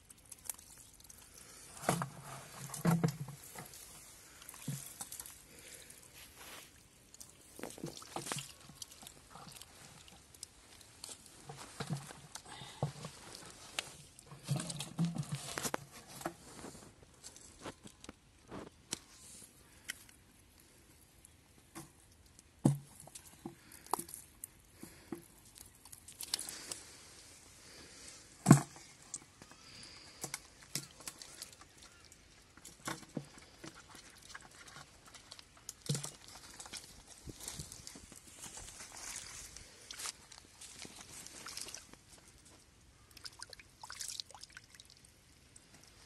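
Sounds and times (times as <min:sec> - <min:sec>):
mud squelching and splashing: 0:00.0 - 0:16.2, 0:18.8 - 0:46.0.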